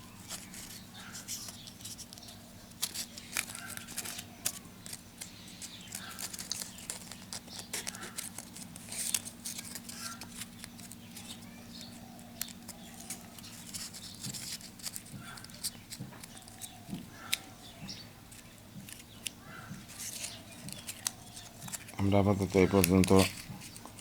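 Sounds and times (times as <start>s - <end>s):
light clicks and scratches of paper: 0.1s - 24.0s.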